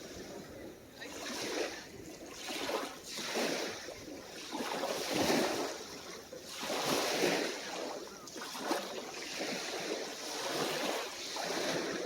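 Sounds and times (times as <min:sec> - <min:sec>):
small waves breaking on shore: 0:00.0 - 0:12.0.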